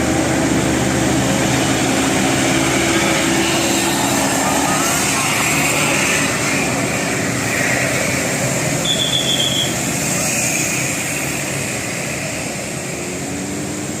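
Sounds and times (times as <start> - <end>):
bus engine and tyre noise: 0.0 - 14.0.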